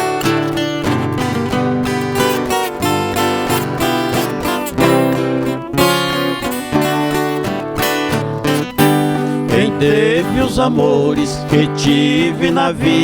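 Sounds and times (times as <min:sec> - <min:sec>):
guitar strings plucked and strummed: 0:00.0 - 0:13.0.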